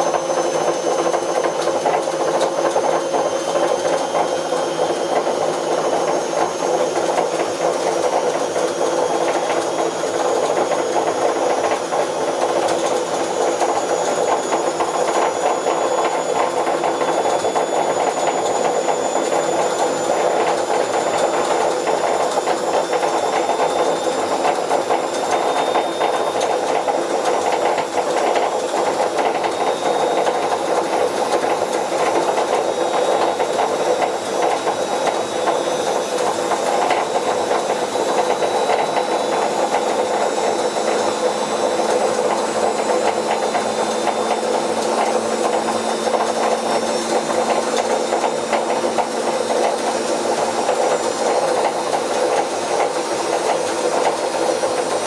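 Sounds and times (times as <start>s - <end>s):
washing machine rattling grind: 0.0s - 55.0s.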